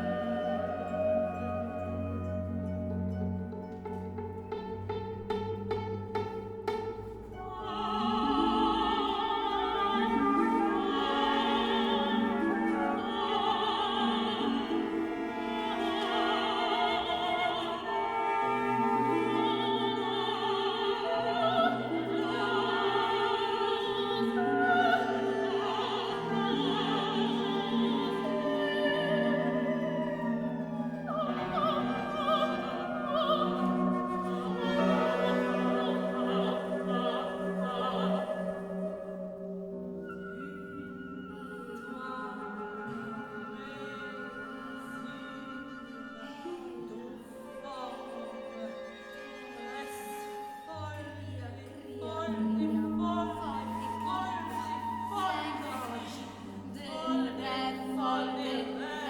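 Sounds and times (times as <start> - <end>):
orchestral accompaniment: 0.0 - 59.0
operatic singing voice: 7.4 - 39.5, 40.3 - 59.0.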